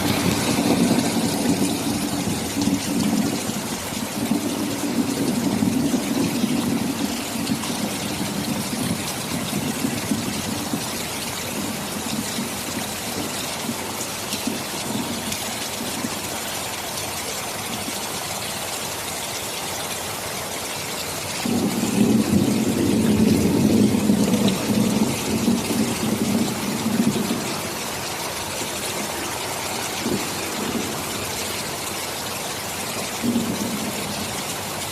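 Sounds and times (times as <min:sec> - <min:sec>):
low rumble of thunder: 0:00.0 - 0:16.3, 0:21.4 - 0:34.9
heavy rain hissing: 0:00.0 - 0:34.9.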